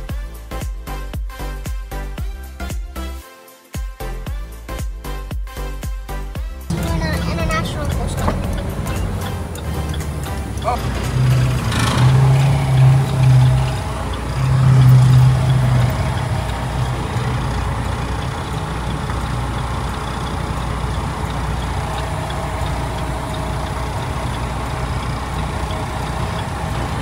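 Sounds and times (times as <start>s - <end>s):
diesel truck engine: 5.0s - 27.0s.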